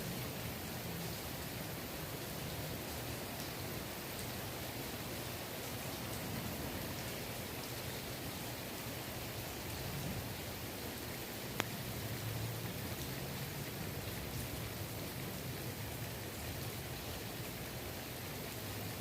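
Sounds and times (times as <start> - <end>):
rain falling on pool water: 0.0 - 19.0.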